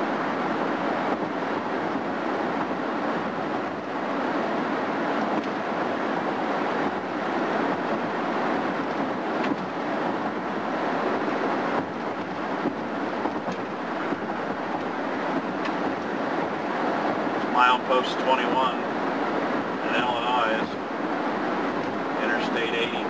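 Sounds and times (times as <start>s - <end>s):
car engine: 0.0s - 23.0s
road and wind noise in a car: 0.0s - 23.0s.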